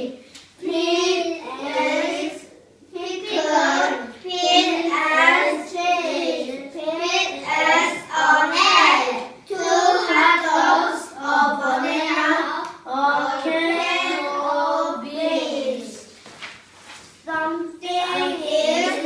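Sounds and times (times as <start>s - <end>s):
child singing high phrases: 0.0s - 16.0s, 17.3s - 19.0s.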